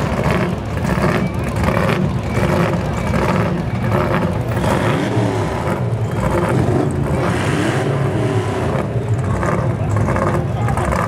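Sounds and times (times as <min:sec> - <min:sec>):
car engines and exhausts rumbling: 0:00.0 - 0:11.0.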